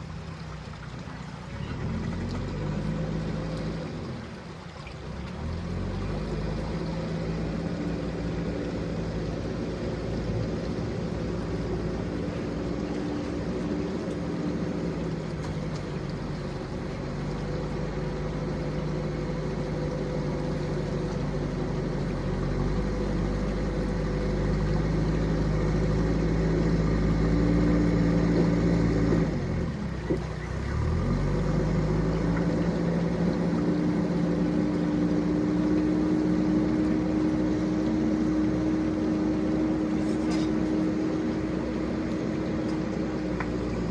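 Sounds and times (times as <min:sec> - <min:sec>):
heavy machine engine running: 0:01.5 - 0:43.9.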